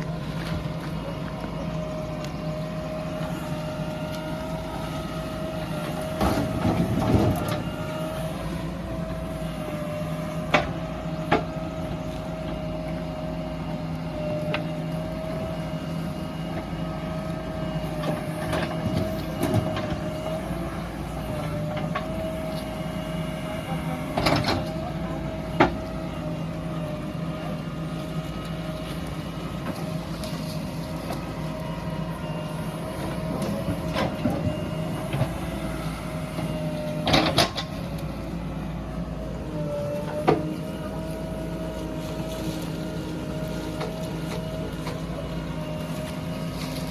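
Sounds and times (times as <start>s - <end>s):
diesel engines running: 0.0s - 46.9s.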